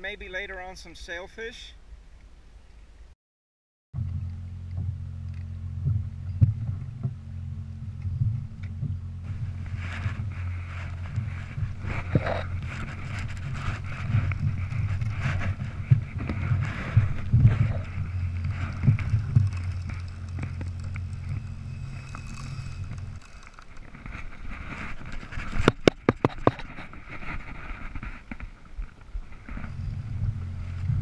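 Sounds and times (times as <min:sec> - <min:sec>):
low rumble: 0:04.0 - 0:31.0.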